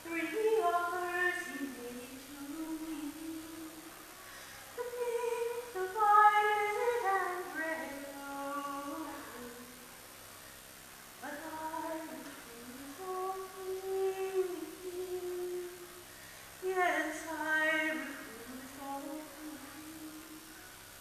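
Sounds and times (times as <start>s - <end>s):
woman singing unaccompanied: 0.0s - 4.0s, 4.7s - 9.9s, 11.2s - 20.6s.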